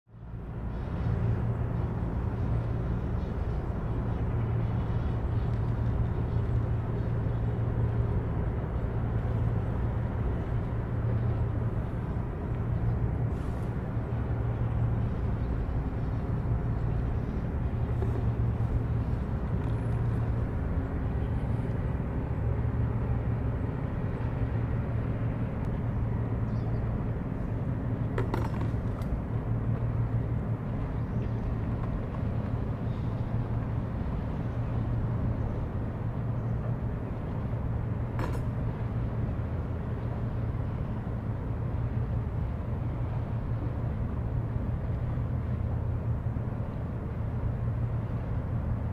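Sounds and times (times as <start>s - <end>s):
boat diesel engines humming: 0.1s - 48.9s.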